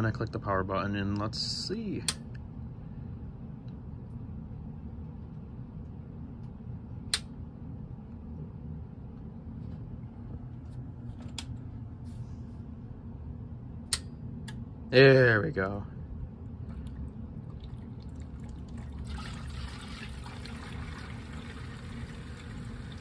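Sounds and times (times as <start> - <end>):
pc pump and fans humming: 0.0 - 23.0.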